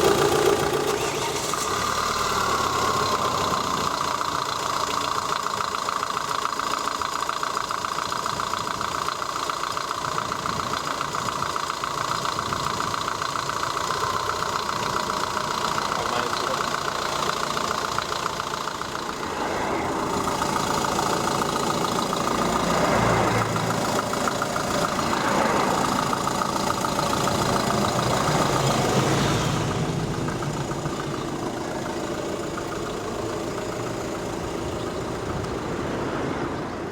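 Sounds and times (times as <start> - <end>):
engine pulley knocking: 0.0 - 36.0
car engine running: 0.0 - 36.9.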